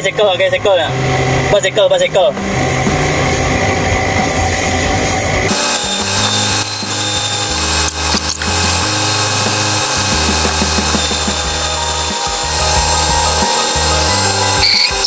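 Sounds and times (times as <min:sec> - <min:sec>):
background music: 0:00.0 - 0:15.0
crane engine and hydraulics running: 0:00.1 - 0:15.0.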